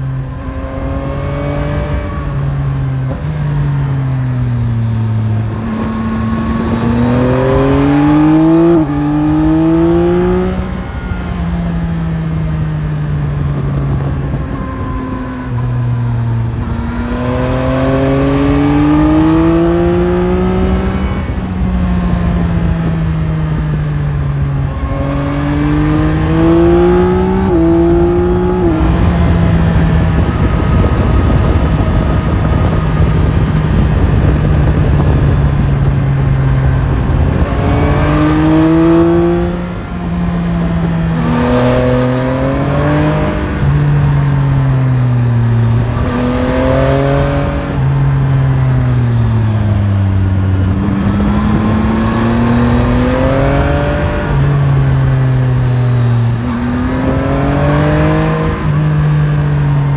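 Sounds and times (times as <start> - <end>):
gear changes: 0.0 - 59.9
motorcycle engine revving: 0.0 - 59.9
wind noise: 0.0 - 59.9.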